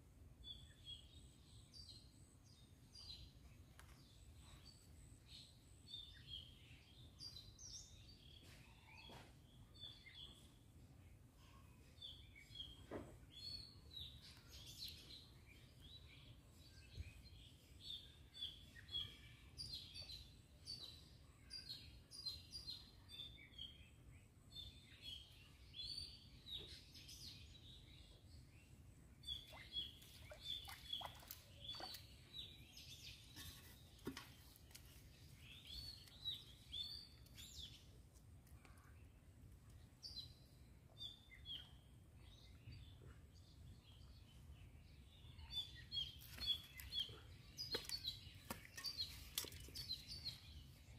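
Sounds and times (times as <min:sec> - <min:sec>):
birds chirping faintly: 0:00.0 - 0:50.9.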